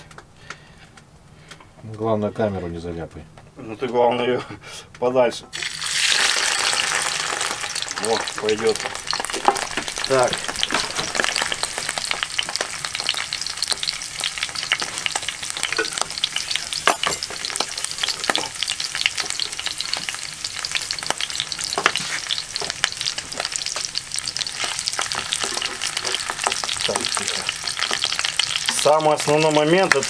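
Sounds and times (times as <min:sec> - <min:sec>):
sausages sizzling in hot oil: 0:05.5 - 0:30.0.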